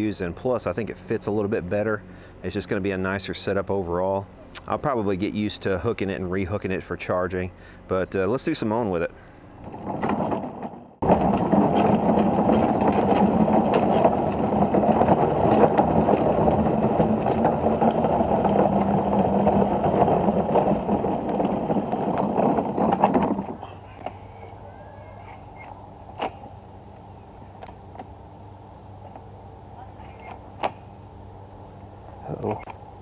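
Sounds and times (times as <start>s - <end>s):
lawn mower humming: 0.0s - 33.0s.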